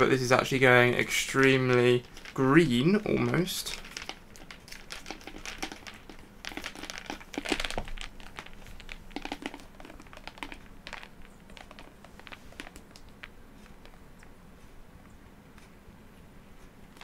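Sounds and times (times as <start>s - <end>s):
plastic shaker cup rustling and clicking: 0.3s - 14.3s.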